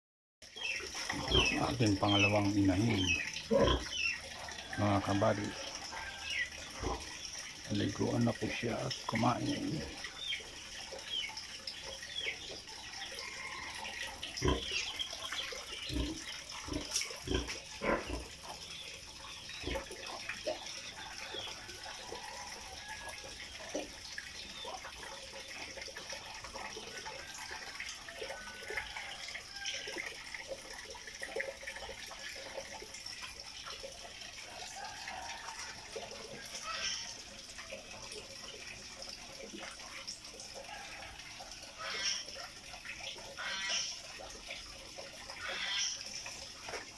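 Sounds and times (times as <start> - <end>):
wet watery sounds: 0.4 - 46.9.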